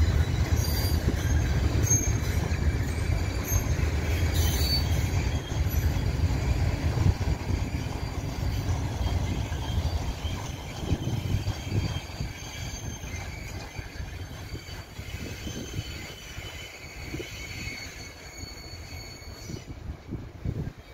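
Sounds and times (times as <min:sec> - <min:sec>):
high wheel squeal: 0:00.0 - 0:19.9
freight train rumble: 0:00.0 - 0:20.9.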